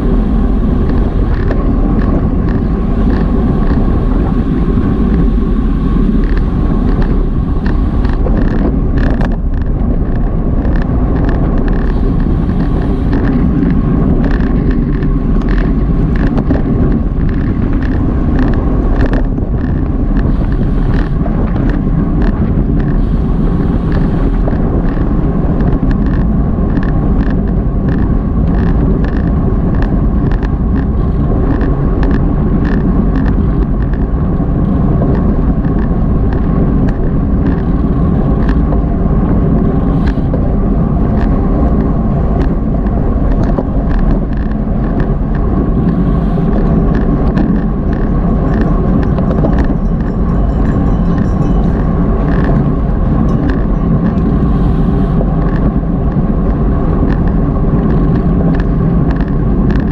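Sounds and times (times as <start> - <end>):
bicycle clicks and rattles: 0.0 - 59.9
road noise: 0.0 - 59.9
wind rushing over microphone: 0.0 - 59.9.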